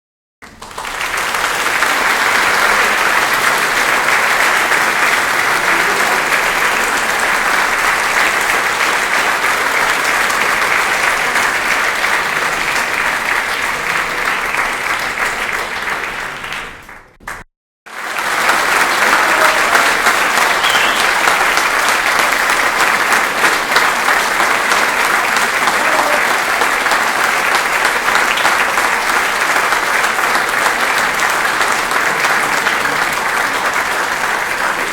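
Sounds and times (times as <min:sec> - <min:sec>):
crowd applauding: 0:00.4 - 0:34.9.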